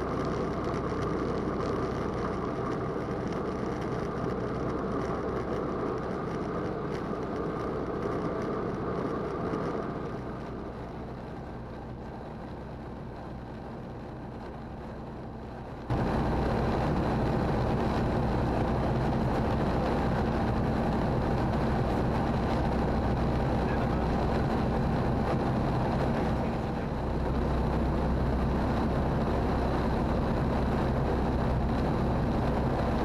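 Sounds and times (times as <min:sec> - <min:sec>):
aircraft engine and propeller droning: 0:00.0 - 0:33.0.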